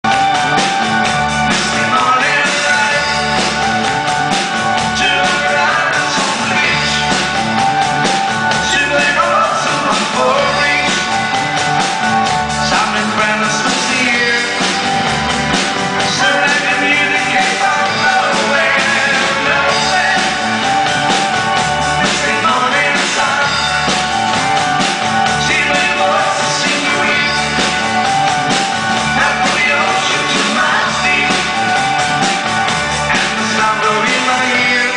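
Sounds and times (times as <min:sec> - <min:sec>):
person singing: 0:00.0 - 0:15.3, 0:15.9 - 0:34.9
live pop band playing: 0:00.0 - 0:34.9.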